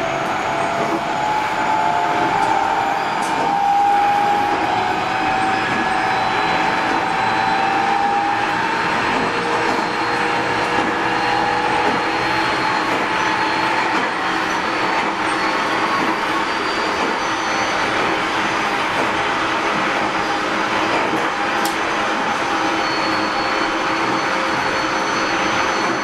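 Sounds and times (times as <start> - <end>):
train wheels rolling on rail: 0.0 - 26.0.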